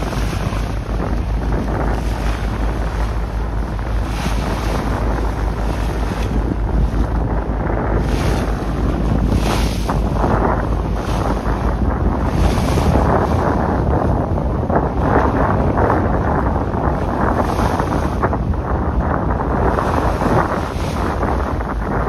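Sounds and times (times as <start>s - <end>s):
waves washing: 0.0s - 22.0s
wind buffeting microphone: 0.0s - 22.0s.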